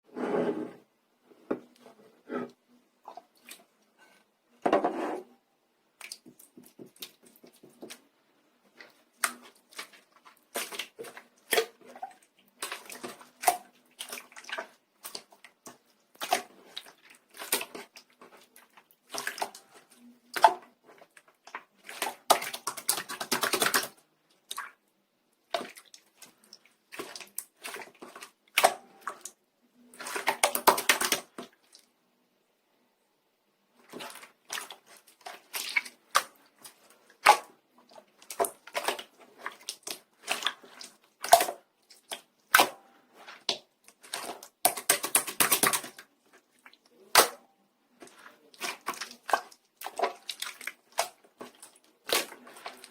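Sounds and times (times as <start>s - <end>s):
slime squishing by hand: 6.0s - 31.9s, 33.7s - 52.9s.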